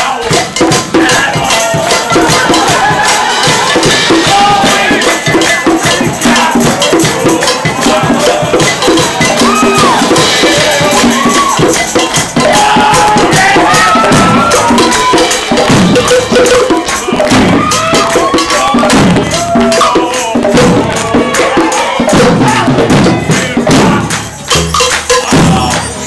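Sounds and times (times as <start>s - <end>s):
hand percussion: 0.0s - 26.0s
voices singing together: 0.0s - 26.0s.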